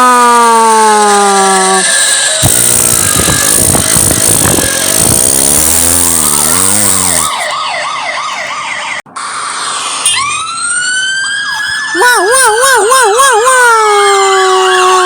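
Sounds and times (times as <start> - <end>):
siren winding up: 0.0 - 12.5
police siren wailing: 0.0 - 15.0.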